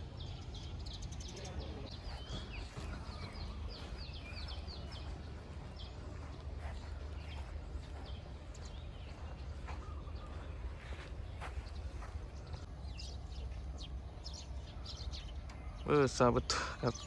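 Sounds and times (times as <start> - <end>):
steady low rumble: 0.0 - 15.7
small birds chirping: 0.0 - 17.0.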